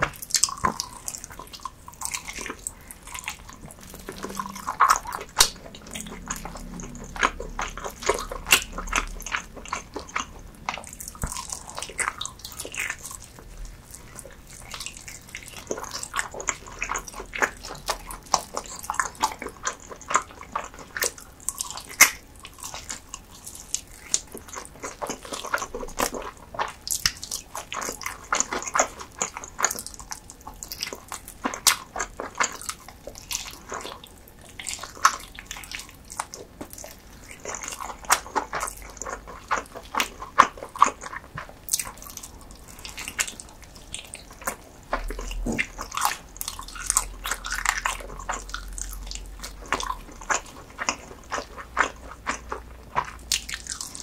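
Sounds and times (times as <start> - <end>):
person biting and chewing: 0.0 - 54.0.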